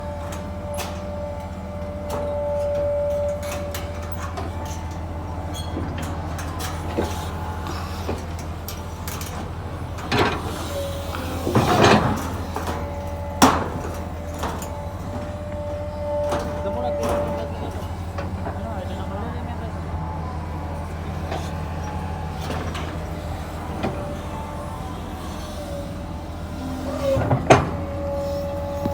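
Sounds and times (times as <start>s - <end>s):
excavator whining: 0.0s - 28.9s
knocks and clanks: 0.3s - 18.8s, 20.8s - 28.9s.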